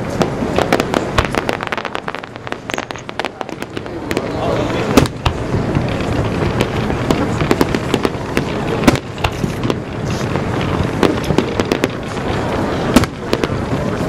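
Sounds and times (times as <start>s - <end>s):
fireworks exploding: 0.0s - 14.0s.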